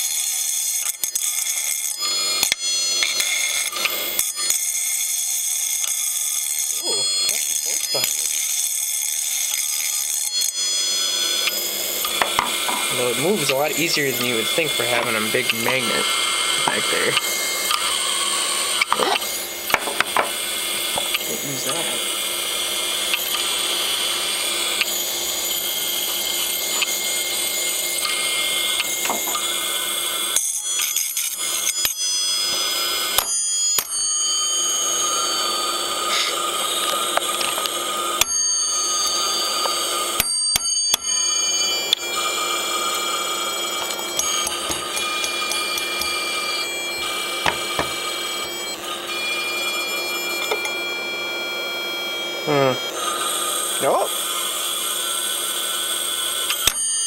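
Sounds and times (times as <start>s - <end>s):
hard drive whine: 0.0s - 57.0s.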